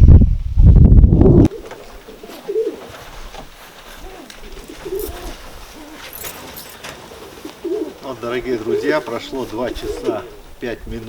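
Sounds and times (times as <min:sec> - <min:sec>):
pigeons cooing: 0:01.4 - 0:10.8.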